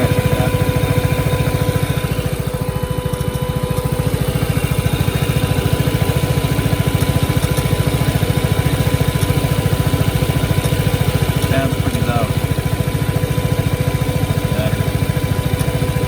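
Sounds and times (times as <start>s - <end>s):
radiator cooling fan running: 0.0s - 16.0s
scooter engine idling: 0.0s - 16.0s.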